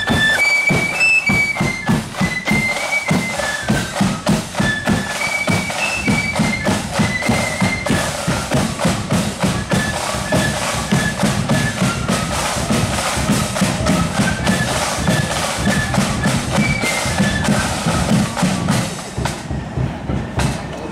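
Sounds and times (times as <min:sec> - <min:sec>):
flute melody: 0:00.0 - 0:19.3
snare and bass drums beat: 0:00.0 - 0:20.9.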